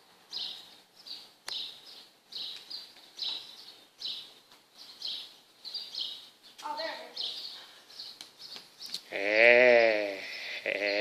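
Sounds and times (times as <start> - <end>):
bird chirping: 0.2 - 11.0.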